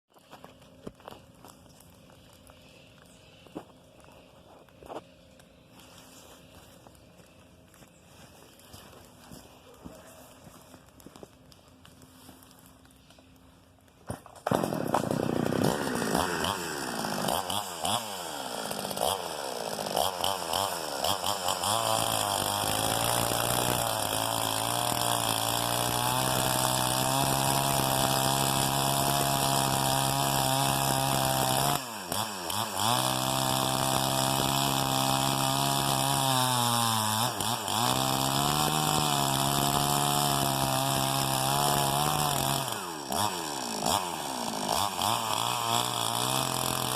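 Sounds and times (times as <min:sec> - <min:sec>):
chainsaw cutting log: 0:00.1 - 0:07.8, 0:14.0 - 0:46.9.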